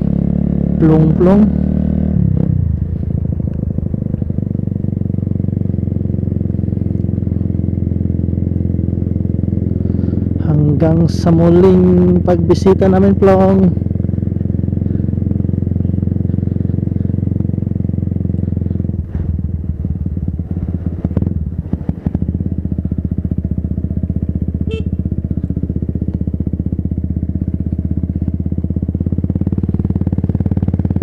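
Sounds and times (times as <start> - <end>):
motorcycle engine at low speed: 0.0 - 31.0.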